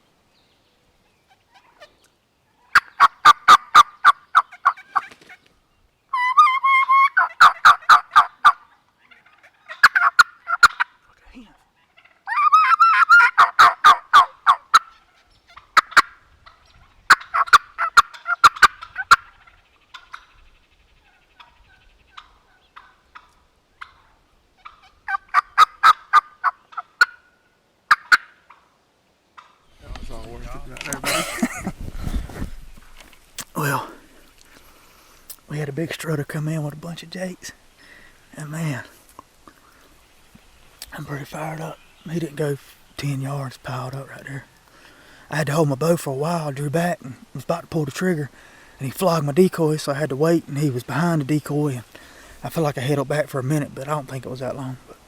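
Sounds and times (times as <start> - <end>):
turkeys gobbling: 1.3 - 5.5, 6.1 - 31.8, 32.7 - 55.0.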